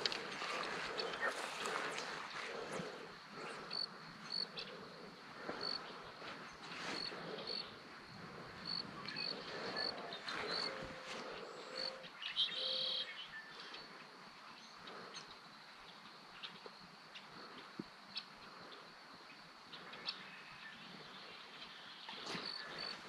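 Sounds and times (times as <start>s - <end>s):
cricket chirping: 0.0s - 23.0s
faint outdoor background: 0.0s - 23.0s.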